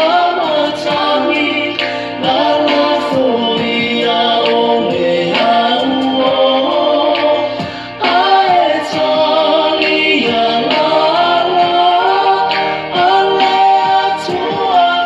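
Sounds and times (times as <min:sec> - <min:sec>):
man singing gospel song: 0:00.0 - 0:15.0.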